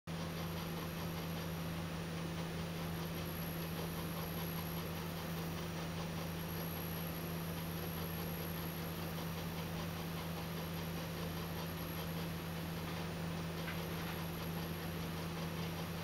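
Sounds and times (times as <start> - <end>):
low electrical hum: 0.1 - 16.0.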